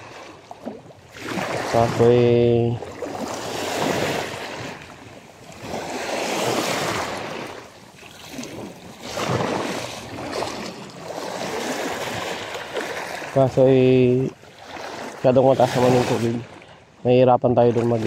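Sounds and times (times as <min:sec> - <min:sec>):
waves washing in: 0:00.0 - 0:18.0.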